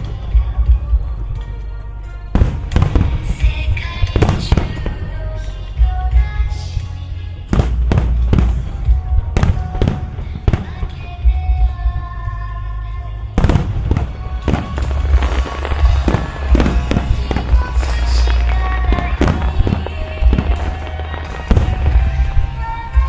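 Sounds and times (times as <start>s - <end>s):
fireworks booming and crackling: 0.0s - 12.3s, 13.0s - 23.0s
loud music over loudspeakers: 0.0s - 23.0s.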